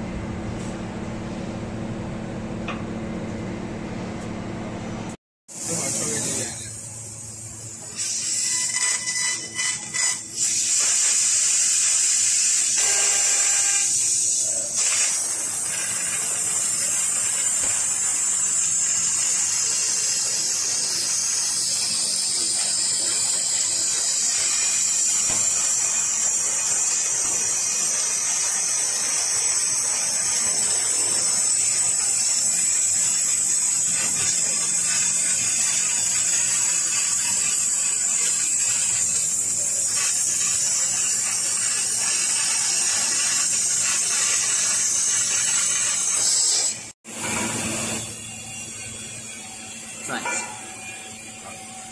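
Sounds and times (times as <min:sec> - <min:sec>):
laser cutter hissing: 0:05.5 - 0:51.9.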